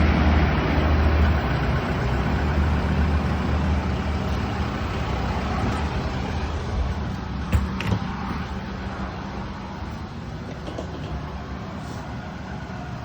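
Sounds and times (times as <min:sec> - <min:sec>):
low motor hum: 0:00.0 - 0:11.8
broad rush of noise: 0:00.0 - 0:13.0.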